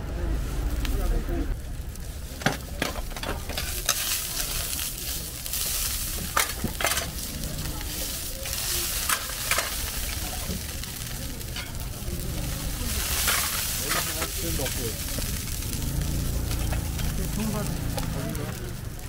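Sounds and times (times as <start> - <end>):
food sizzling in oil: 1.5 - 19.0.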